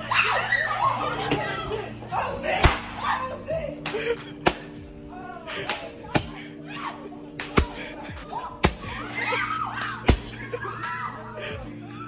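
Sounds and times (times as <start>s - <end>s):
music: 0.0s - 12.0s
people shouting: 0.0s - 12.0s.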